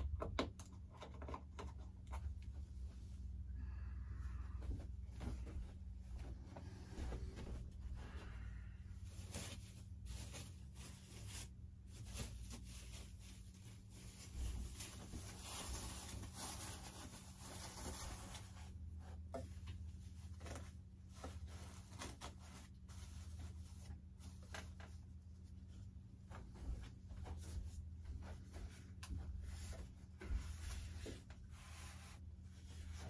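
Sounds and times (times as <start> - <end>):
rustling: 4.2 - 33.0.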